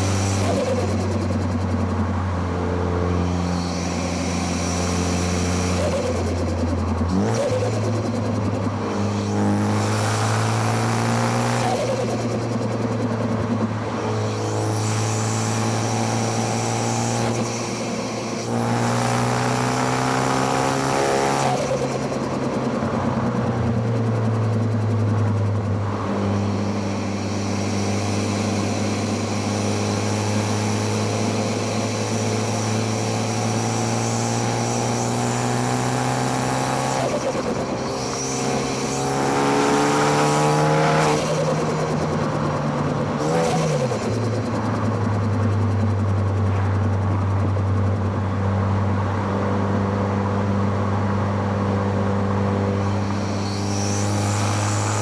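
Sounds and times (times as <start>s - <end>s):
car engine revving with gear changes: 0.0s - 55.0s.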